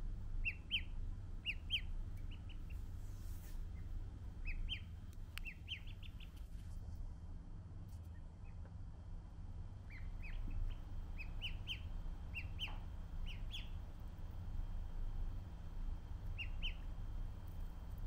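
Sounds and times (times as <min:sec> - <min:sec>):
ducklings peeping: 0:00.2 - 0:06.5, 0:09.8 - 0:18.0.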